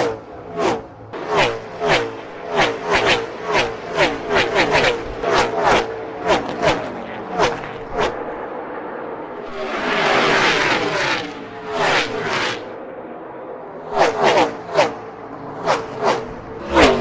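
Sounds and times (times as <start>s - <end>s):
race cars passing at speed: 0.0s - 17.0s.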